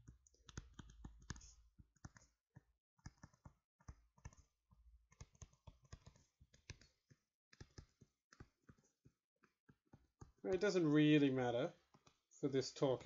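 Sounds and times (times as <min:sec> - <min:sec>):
stylus tapping on tablet screen: 0:00.0 - 0:10.8, 0:11.8 - 0:12.3.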